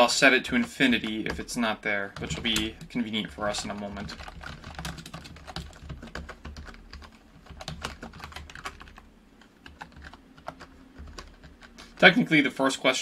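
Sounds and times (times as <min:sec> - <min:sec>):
computer keyboard typing: 0:00.0 - 0:12.1.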